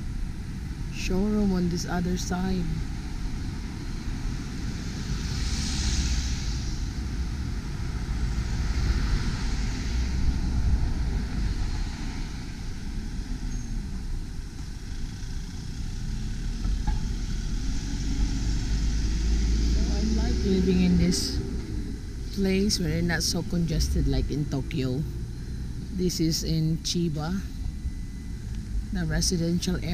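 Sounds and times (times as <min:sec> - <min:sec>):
cars passing with tyre hiss: 0:00.0 - 0:29.9
steady low rumble: 0:00.0 - 0:29.9.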